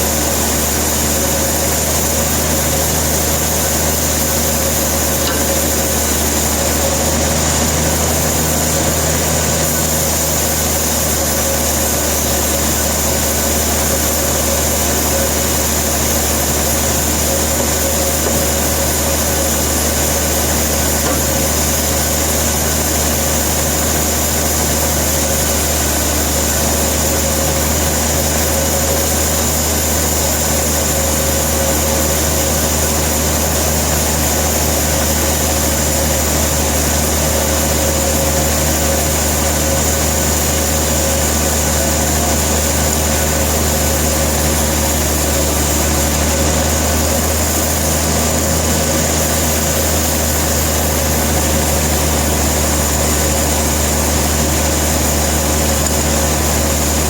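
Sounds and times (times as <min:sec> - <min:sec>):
constant high whine: 0:00.0 - 0:57.0
sawmill machinery engine drone: 0:00.0 - 0:57.0.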